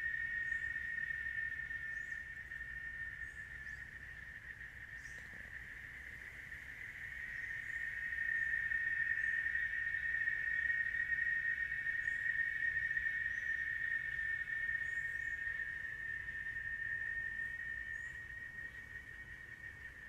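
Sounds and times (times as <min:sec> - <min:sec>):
faint bird chirps: 0:00.0 - 0:20.0
insect drone: 0:00.0 - 0:20.0.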